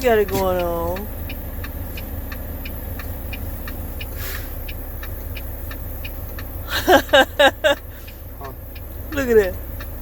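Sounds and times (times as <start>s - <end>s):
faint ticks: 0.2s - 6.6s, 7.6s - 10.0s.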